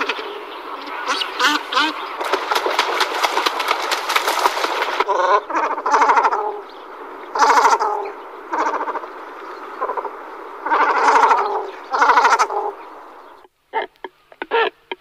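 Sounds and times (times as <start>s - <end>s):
cormorants croaking: 0.0s - 15.0s.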